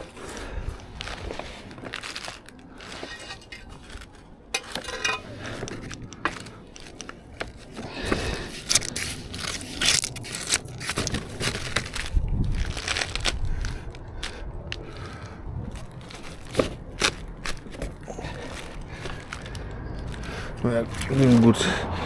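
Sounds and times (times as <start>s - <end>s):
timber scraping on gravel: 0.0s - 21.7s.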